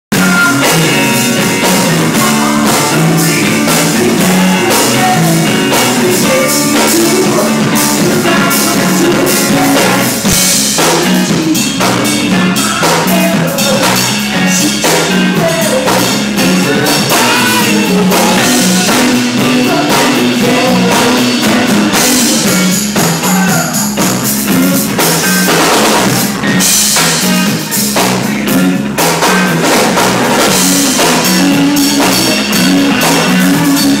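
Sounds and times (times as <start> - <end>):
bass line: 0.1 - 34.0
rock band playing: 0.1 - 34.0.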